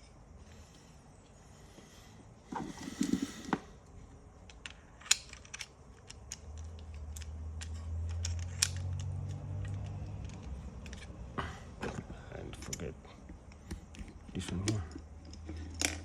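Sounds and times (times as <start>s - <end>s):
small parts clicking and tapping: 2.8s - 16.0s.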